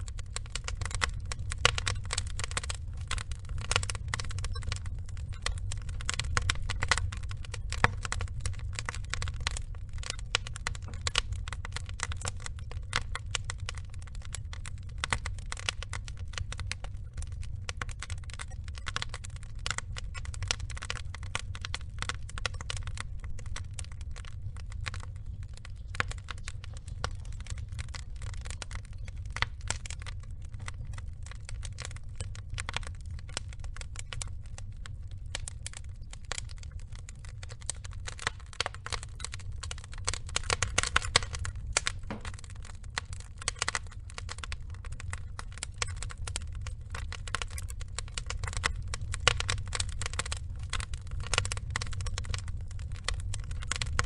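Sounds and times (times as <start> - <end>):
log fire crackling: 0.0 - 54.0.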